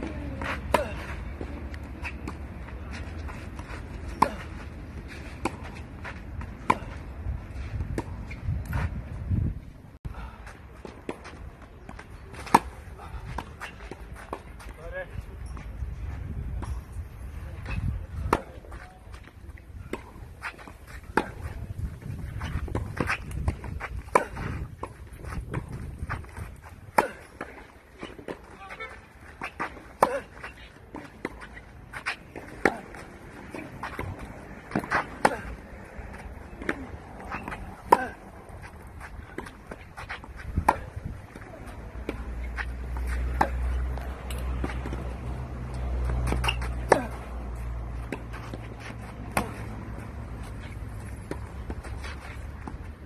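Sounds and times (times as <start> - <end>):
tennis ball bouncing: 0.0 - 7.0, 7.8 - 8.9, 10.8 - 14.7, 17.6 - 53.0
racket hitting tennis ball: 0.0 - 7.1, 10.8 - 14.7, 17.6 - 53.0.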